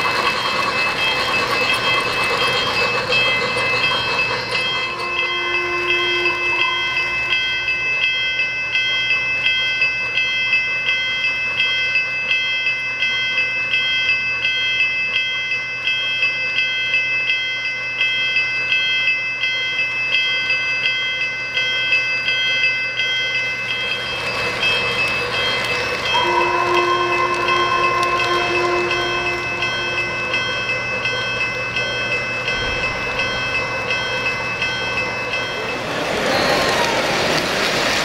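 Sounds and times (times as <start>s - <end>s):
model train cars rumbling: 0.0s - 14.6s, 19.4s - 38.0s
crossing signal bell ringing: 0.0s - 37.2s.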